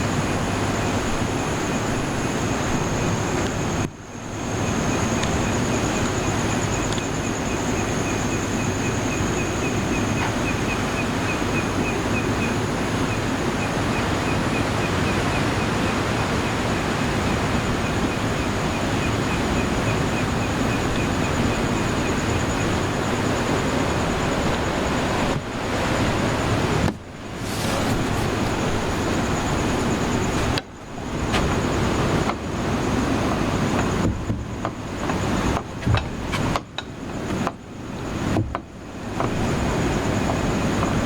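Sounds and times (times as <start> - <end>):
high-pitched insect trill: 0.0 - 34.0
insect rapid pulsing chirp: 0.0 - 41.0
surf washing on shore: 0.0 - 41.0.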